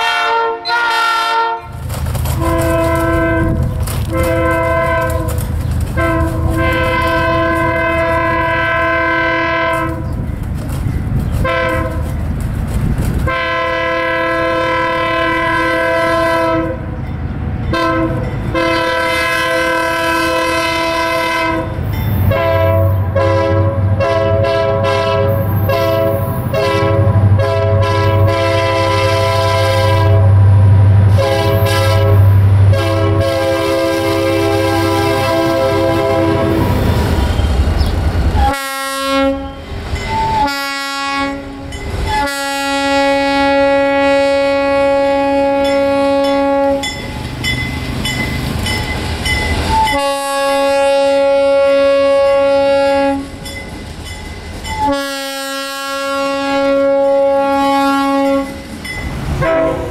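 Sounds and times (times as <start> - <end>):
locomotive air horn blasts: 0.0 - 10.1, 11.4 - 12.1, 13.2 - 17.0, 17.7 - 37.2, 38.4 - 47.1, 49.7 - 53.5, 54.6 - 58.7, 59.4 - 59.9
passing train rumble: 0.0 - 59.9.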